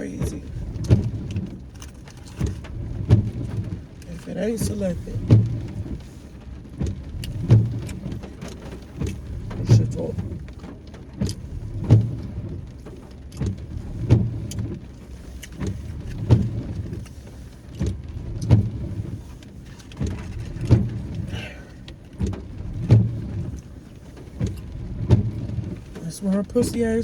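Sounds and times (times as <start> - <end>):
car cabin hum: 0.0 - 27.0
windshield wipers thumping: 0.0 - 27.0.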